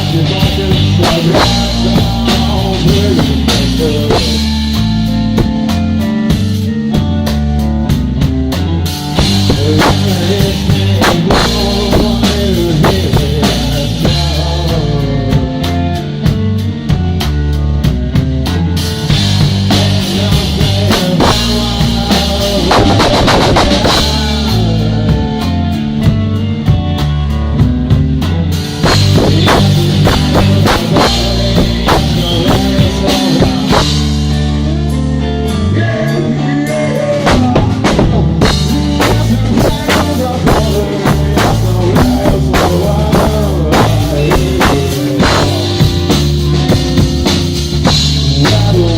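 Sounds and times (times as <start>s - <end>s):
drum kit beat: 0.0s - 48.9s
rock music: 0.0s - 48.9s.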